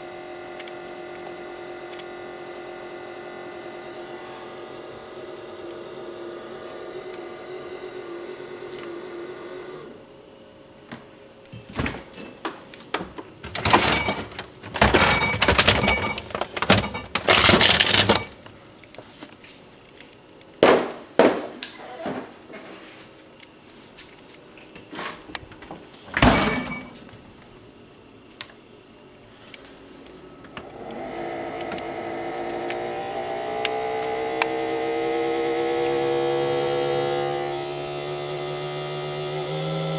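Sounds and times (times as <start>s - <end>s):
refrigerator fan humming: 0.0s - 39.9s.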